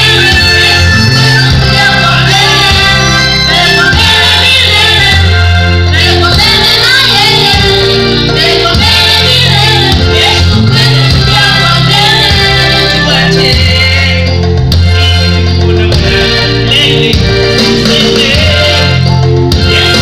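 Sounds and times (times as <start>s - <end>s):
amplified music with bass line: 0.0s - 20.0s
vocal group singing: 0.0s - 20.0s.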